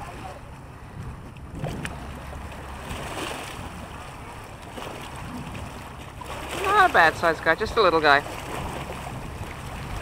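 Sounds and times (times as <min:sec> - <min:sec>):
water lapping against rocky shore: 0:00.0 - 0:10.0.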